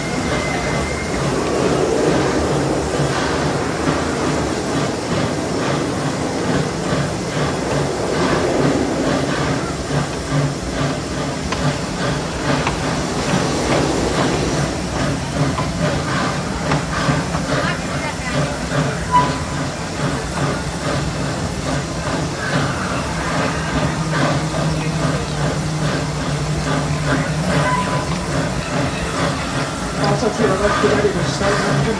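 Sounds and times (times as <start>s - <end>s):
steam hiss: 0.0s - 31.9s
steam locomotive chuffing: 0.0s - 31.9s
train clattering on track: 0.0s - 31.9s.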